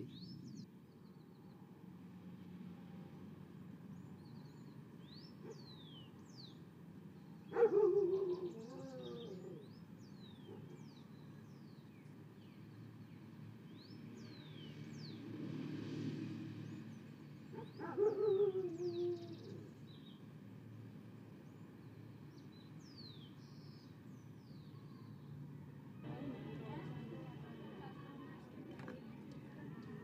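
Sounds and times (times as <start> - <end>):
birds chirping: 0.0 - 1.6, 3.9 - 15.2, 16.6 - 20.3, 21.4 - 30.0.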